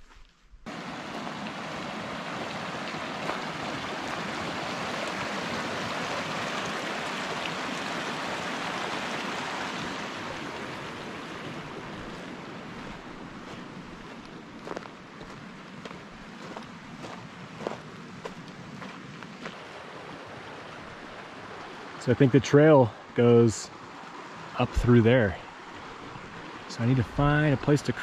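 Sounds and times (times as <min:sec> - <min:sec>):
creek water rushing over rocks: 0:00.7 - 0:28.0.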